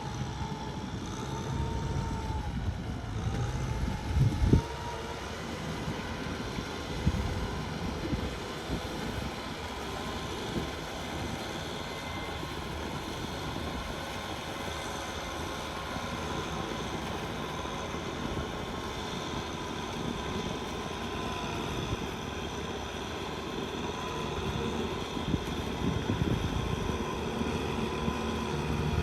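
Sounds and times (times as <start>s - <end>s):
tractor engine running under load: 0.0s - 29.0s.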